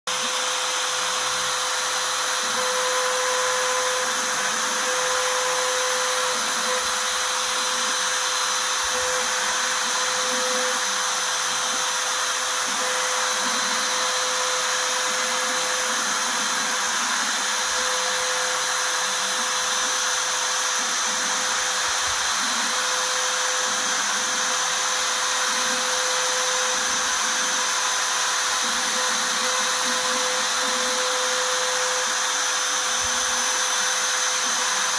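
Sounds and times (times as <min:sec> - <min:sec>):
router spindle whining: 0:00.1 - 0:34.9.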